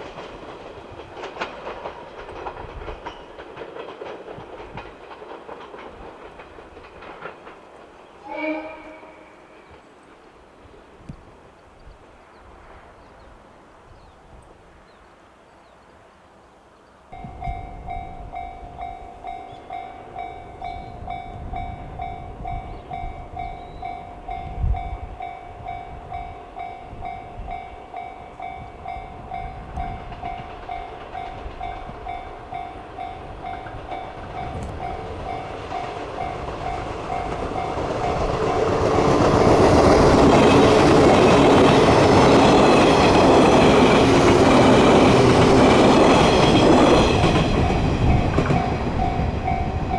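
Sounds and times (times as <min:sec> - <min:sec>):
electric train passing: 0:00.0 - 0:13.8, 0:17.1 - 0:49.9.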